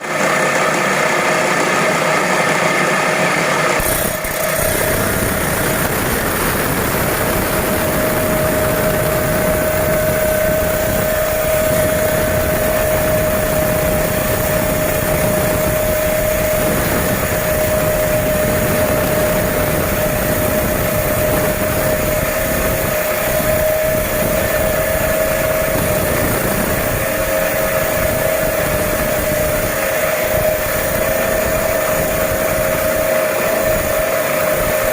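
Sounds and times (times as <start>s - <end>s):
stone-cutting saw whining and grinding: 0.0s - 34.9s.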